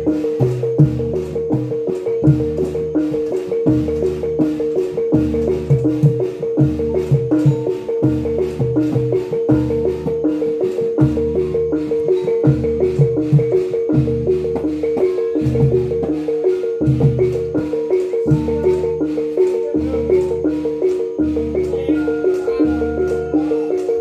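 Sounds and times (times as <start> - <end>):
gamelan gongs and metallophones: 0.0 - 24.0.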